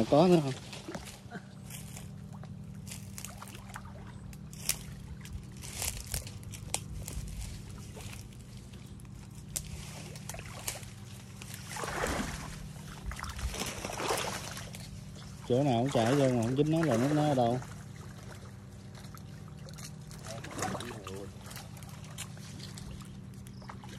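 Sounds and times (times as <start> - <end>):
steady low hum: 0.0 - 23.9
water sloshing and splashing: 0.0 - 23.9.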